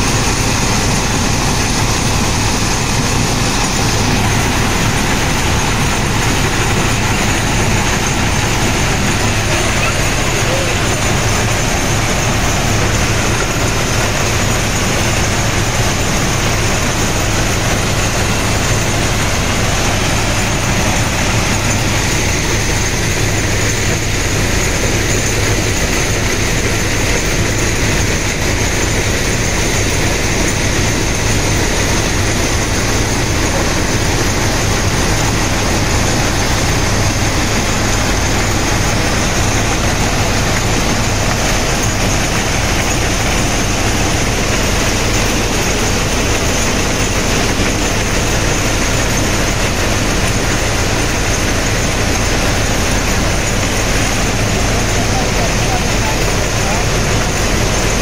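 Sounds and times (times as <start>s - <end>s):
heavy machine mechanical drone: 0.0s - 58.0s.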